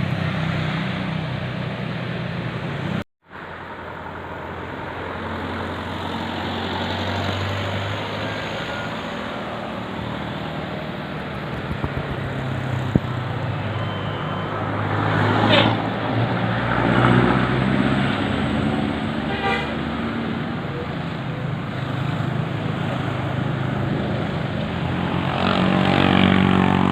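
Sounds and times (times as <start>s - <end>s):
heavy vehicle engines: 0.0s - 26.9s
tyre and road noise: 0.0s - 26.9s.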